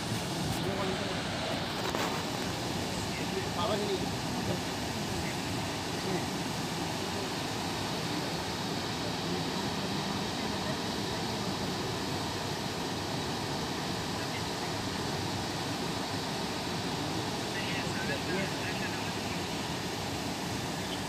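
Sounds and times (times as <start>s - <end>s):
floodwater rushing in cascades: 0.0s - 21.0s.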